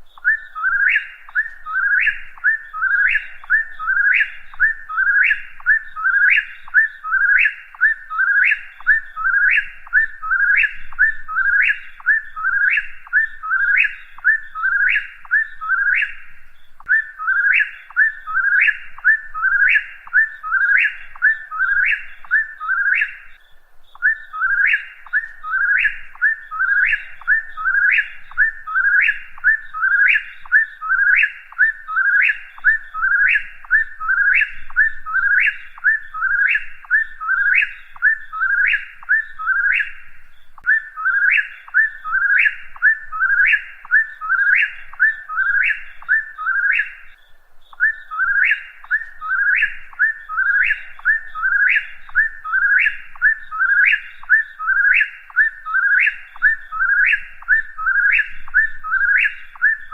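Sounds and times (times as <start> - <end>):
bird whistling song: 0.0 - 59.9.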